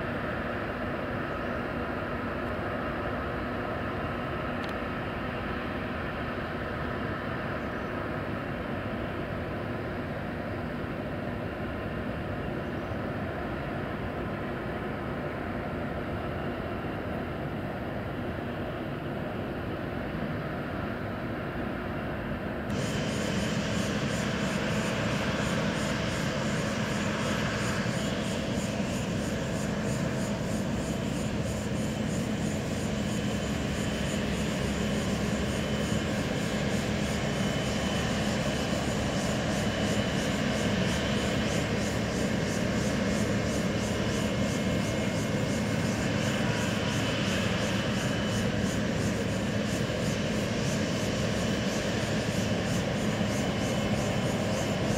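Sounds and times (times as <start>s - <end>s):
jet airliner engine noise: 0.0s - 54.9s.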